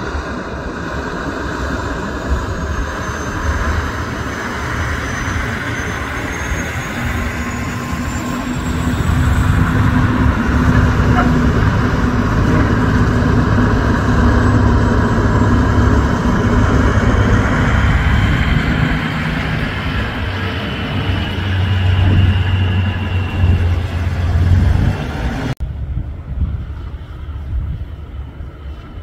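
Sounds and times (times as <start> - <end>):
diesel truck engines passing slowly: 0.0 - 29.0.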